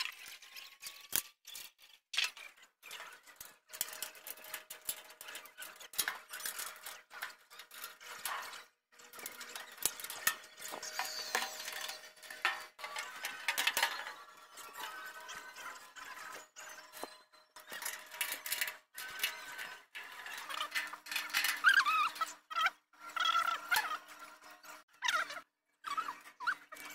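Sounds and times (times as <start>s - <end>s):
metal panels clicking and scraping: 0.0s - 25.4s.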